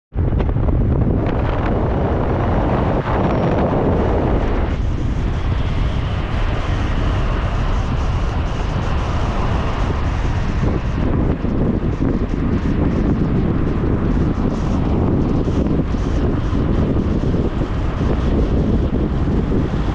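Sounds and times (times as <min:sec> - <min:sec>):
moving vehicle rumble: 0:00.1 - 0:19.9
wind buffeting microphone: 0:00.1 - 0:19.9.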